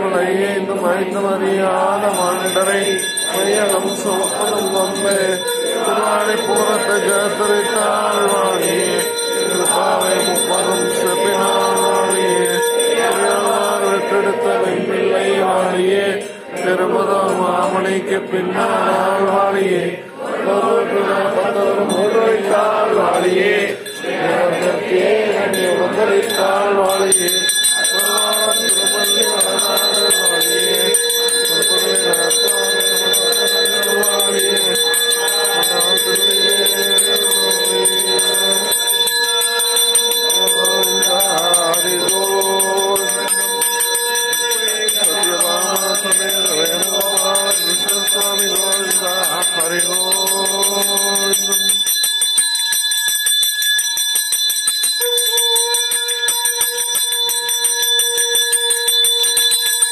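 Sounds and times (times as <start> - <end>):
voices chanting: 0.0 - 51.6
bell ringing: 2.0 - 17.9, 21.8 - 59.9.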